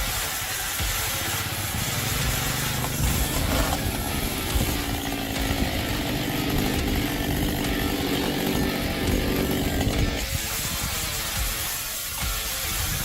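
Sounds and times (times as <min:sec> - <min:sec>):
chainsaw engine at high revs: 0:00.0 - 0:13.0.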